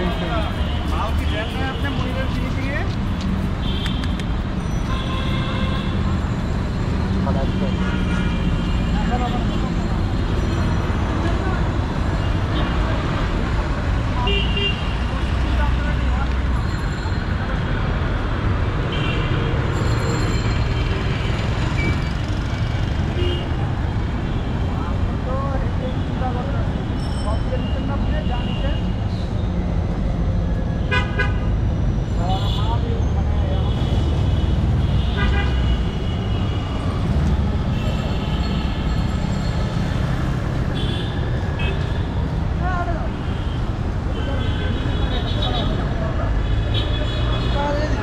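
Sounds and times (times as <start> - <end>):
vehicle engines passing: 0.0 - 14.2, 14.8 - 48.0
busy road traffic: 0.0 - 48.0.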